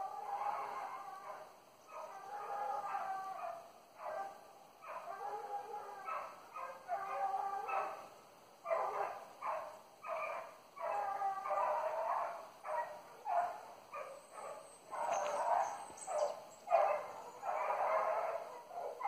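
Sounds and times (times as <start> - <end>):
hunting dogs baying: 0.0 - 19.0.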